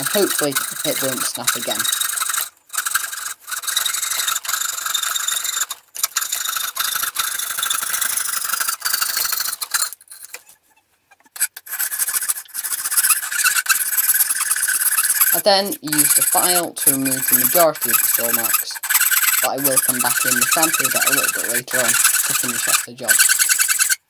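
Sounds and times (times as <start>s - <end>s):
saw rasping through wood: 0.0s - 10.2s, 11.2s - 24.0s.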